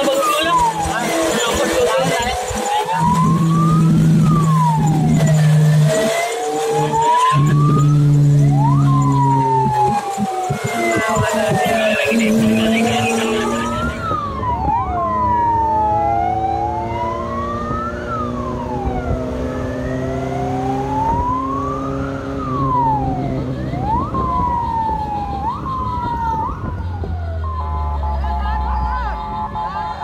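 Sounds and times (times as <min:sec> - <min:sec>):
engine and road noise: 0:00.0 - 0:30.0
siren sweeping quickly: 0:00.0 - 0:30.0
sirens wailing: 0:00.0 - 0:30.0.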